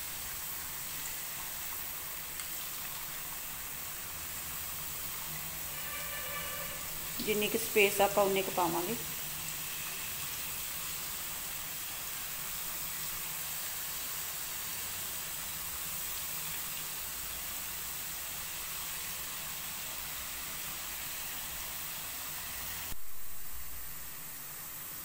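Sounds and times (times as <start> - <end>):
potato slices sizzling in oil: 0.0 - 25.0.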